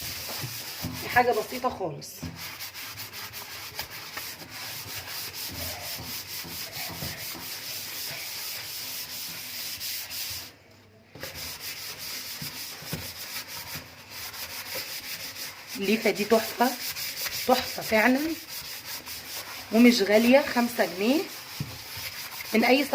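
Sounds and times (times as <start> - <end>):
scouring pad scrubbing steel sink: 0.0 - 10.6, 11.2 - 22.9.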